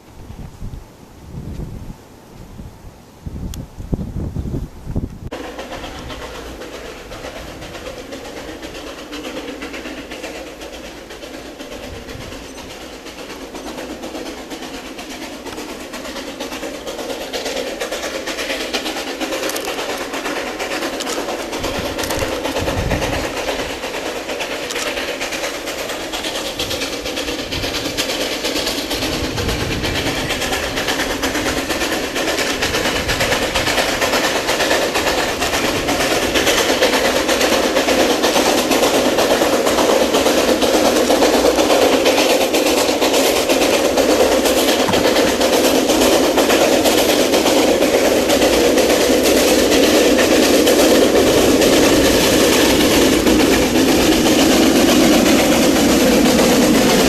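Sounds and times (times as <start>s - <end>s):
steam locomotive running: 0.0s - 57.0s
wheels clattering on rails: 4.9s - 57.0s.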